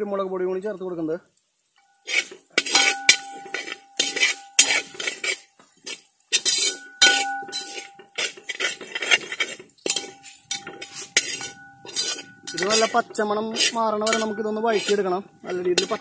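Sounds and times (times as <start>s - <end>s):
metal spoon scraping metal pot: 1.8s - 16.0s.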